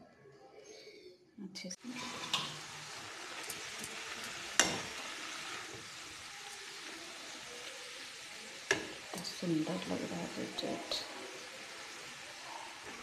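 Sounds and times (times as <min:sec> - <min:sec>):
carrots sizzling in hot fat: 0:01.8 - 0:13.0
metal spoon stirring in pan: 0:01.8 - 0:13.0.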